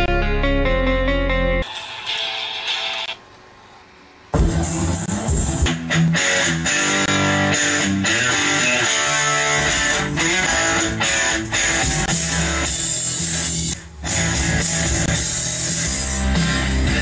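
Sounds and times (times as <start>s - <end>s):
electric guitar music: 0.0s - 3.2s, 4.4s - 17.0s.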